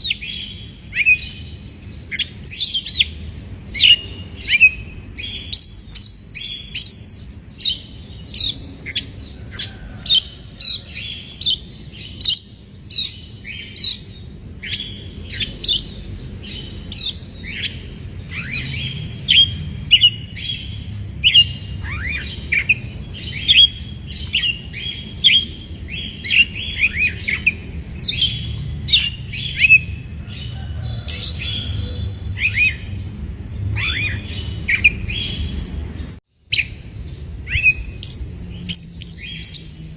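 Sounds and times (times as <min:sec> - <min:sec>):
bird chirping and whistling: 0:00.0 - 0:30.0, 0:31.1 - 0:33.0, 0:33.7 - 0:35.6, 0:36.5 - 0:36.8, 0:37.4 - 0:39.8.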